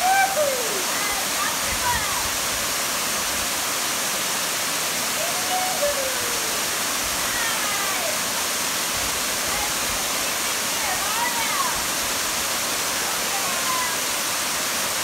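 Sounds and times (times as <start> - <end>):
waterfall pouring over rocks: 0.0 - 15.0.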